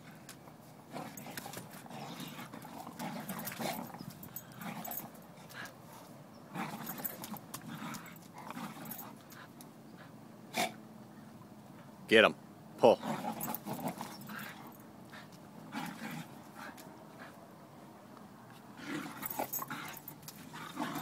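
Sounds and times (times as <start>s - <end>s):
dogs play growling: 0.0s - 10.8s, 13.0s - 17.5s, 18.4s - 21.0s.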